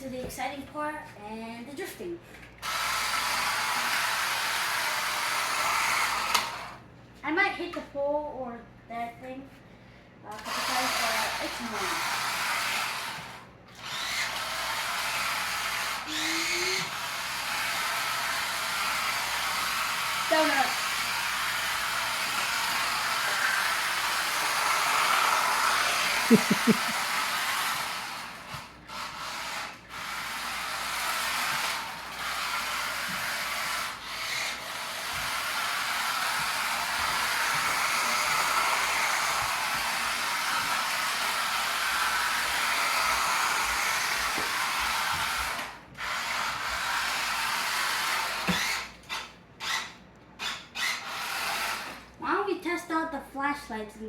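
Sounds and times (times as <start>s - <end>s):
electric motor whining: 2.6s - 6.8s, 10.3s - 52.0s.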